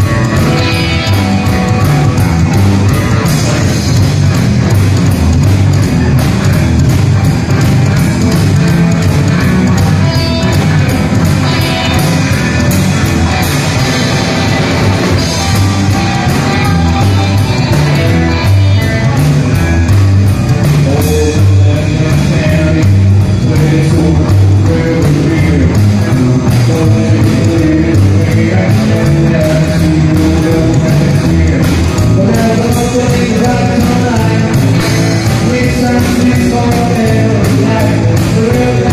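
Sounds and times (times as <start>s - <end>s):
drum kit beat: 0.0s - 38.9s
electric guitars: 0.0s - 38.9s
upright double bass: 0.0s - 38.9s.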